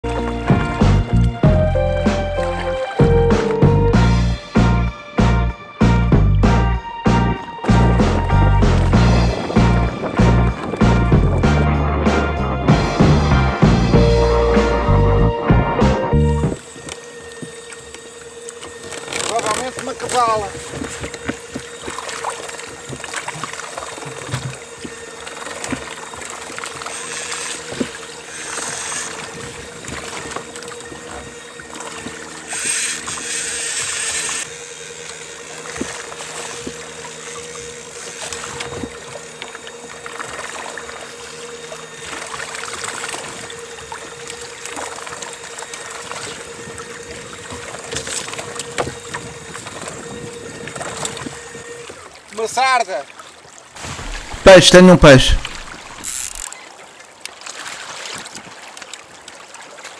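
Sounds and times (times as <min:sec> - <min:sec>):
steady high whine: 0:00.0 - 0:52.2, 0:53.8 - 0:56.5
water rushing along kayak hull: 0:00.0 - 0:59.9.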